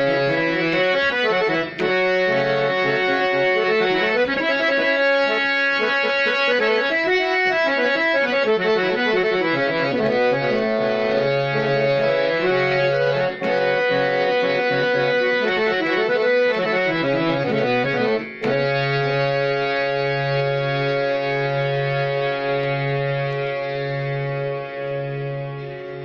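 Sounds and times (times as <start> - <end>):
harmonium melody over drone: 0.0 - 26.0.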